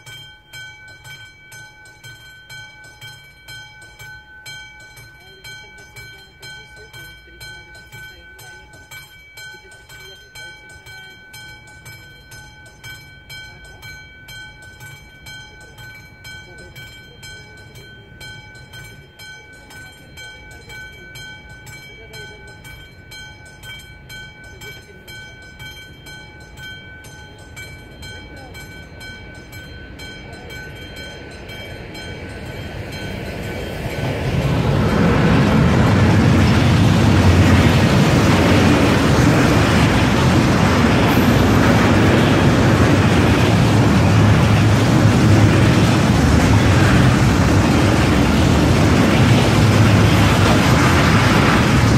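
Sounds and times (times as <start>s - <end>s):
level crossing bell ringing: 0.0s - 46.1s
freight train passing: 0.0s - 51.9s.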